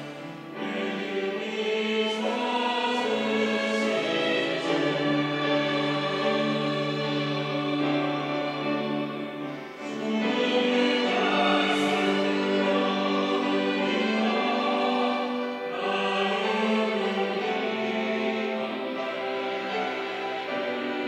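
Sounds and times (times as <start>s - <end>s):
mixed choir singing: 0.0s - 21.0s.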